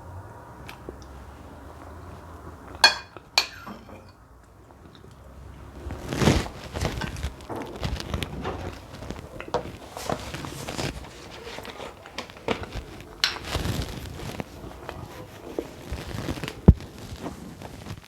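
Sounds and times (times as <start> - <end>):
chewing and mouth sounds: 0.6 - 3.4, 4.4 - 17.2.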